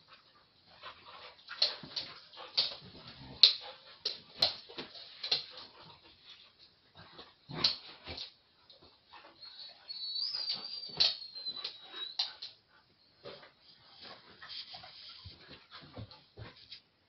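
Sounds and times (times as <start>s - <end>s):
dogs play-fighting: 0.0s - 17.0s.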